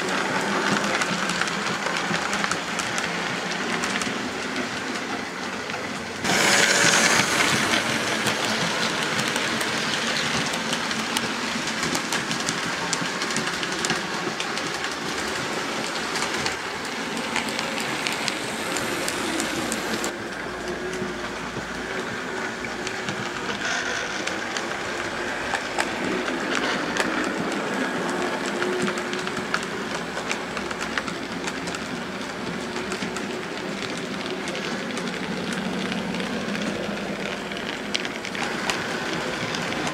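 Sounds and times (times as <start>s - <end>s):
model train wheels clicking: 0.0s - 39.9s.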